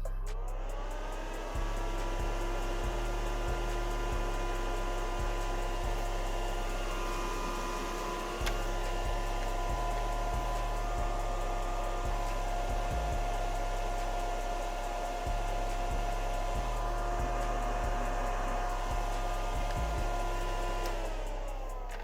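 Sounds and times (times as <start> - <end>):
suction fan running: 0.0 - 22.0.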